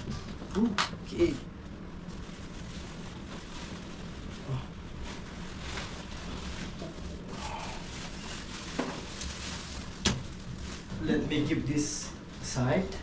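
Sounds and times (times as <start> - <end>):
plastic wrapping rustling: 1.1 - 13.0.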